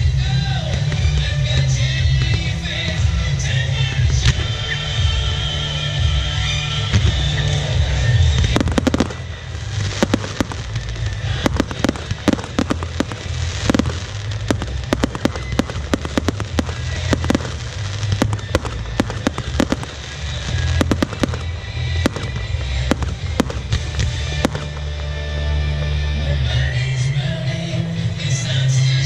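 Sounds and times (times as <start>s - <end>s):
fireworks bursting: 0.0s - 27.4s
low rumble: 0.0s - 28.7s.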